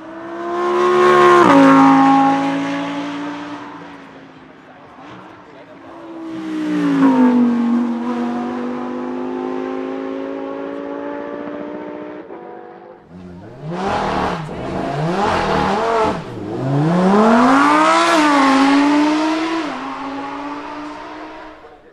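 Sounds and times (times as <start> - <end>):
sports car engine revving: 0.0 - 5.3, 6.0 - 12.3, 13.1 - 21.9.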